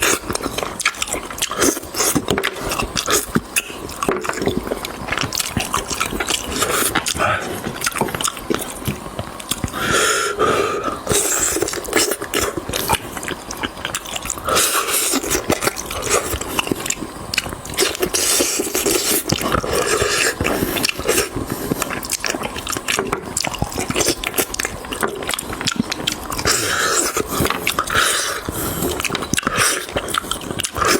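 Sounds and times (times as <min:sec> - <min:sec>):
chewing and biting: 0:00.0 - 0:09.8, 0:11.1 - 0:30.9.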